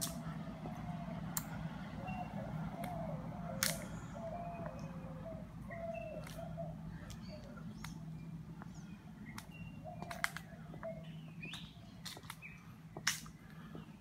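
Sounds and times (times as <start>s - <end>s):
birds chirping and calling: 0.0s - 14.0s
steady low hum: 0.0s - 14.0s.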